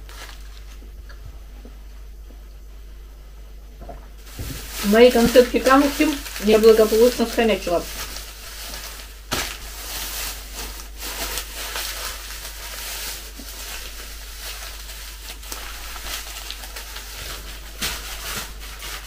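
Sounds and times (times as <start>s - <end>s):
plastic and foil wrappers crinkling: 0.0s - 0.9s, 4.2s - 19.0s.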